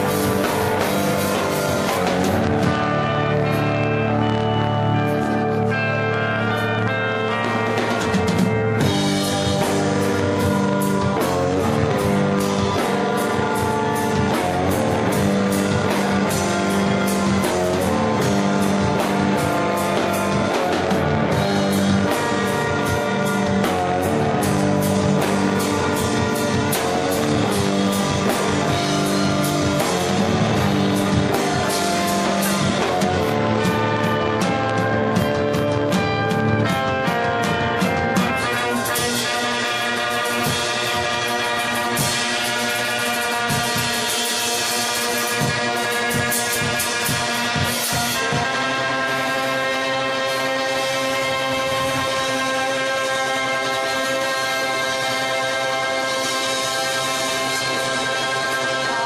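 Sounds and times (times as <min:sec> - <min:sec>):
drum kit and cymbals: 0:00.0 - 0:59.0
electric guitar chords: 0:00.0 - 0:59.0.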